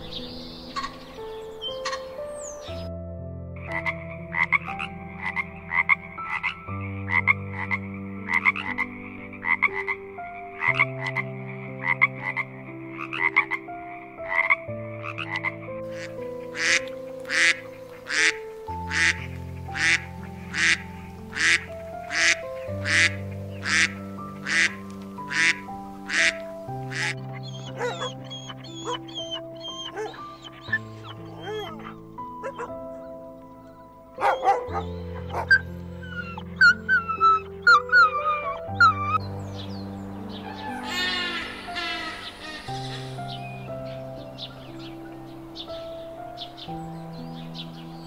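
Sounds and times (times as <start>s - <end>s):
soft background music: 0.0s - 48.0s
frog croaking: 3.6s - 33.5s, 34.1s - 46.6s.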